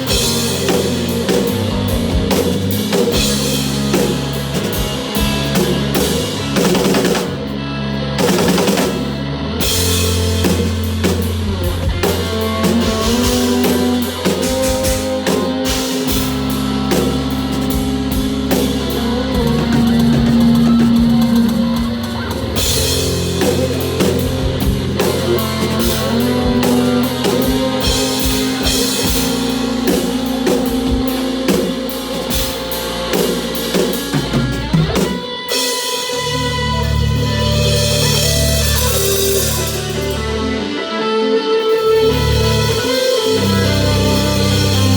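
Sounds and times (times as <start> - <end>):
drum kit: 0.0 - 44.9
instrumental progressive rock: 0.0 - 44.9.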